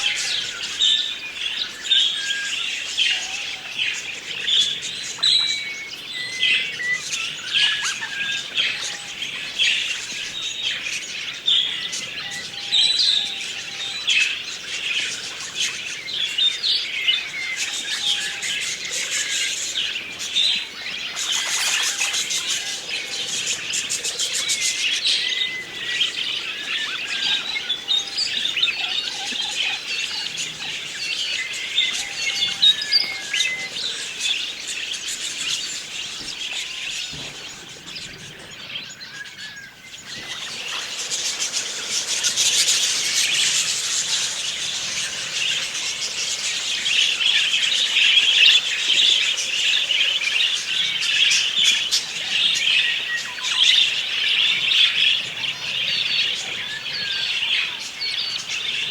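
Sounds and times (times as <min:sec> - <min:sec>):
budgerigars chattering and chirping: 0:00.0 - 0:58.9.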